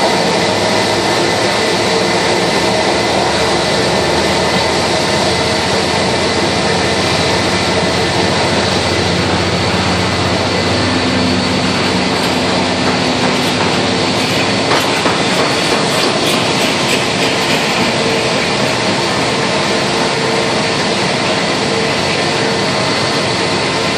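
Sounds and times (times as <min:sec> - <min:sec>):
jet engine whine: 0:00.0 - 0:23.9.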